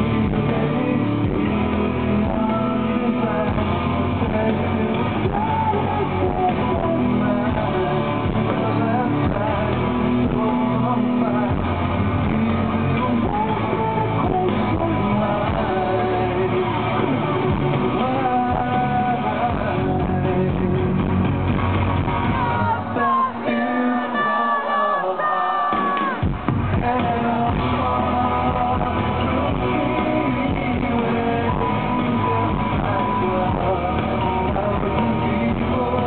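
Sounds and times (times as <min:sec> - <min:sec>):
live rock band playing: 0:00.0 - 0:24.5, 0:25.6 - 0:36.0.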